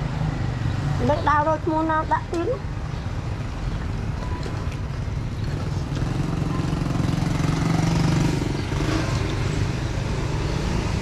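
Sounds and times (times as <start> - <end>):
passing vehicle engine hum: 0.0 - 11.0
street noise: 0.0 - 11.0.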